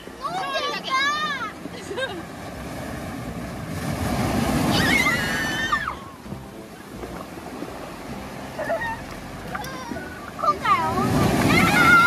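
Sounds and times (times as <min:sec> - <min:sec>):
surf washing over stones: 0:00.0 - 0:12.0.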